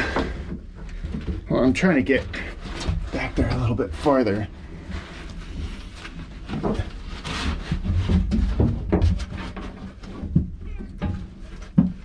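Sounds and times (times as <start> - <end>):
knocks scrapes and rubbing: 0.0 - 12.0.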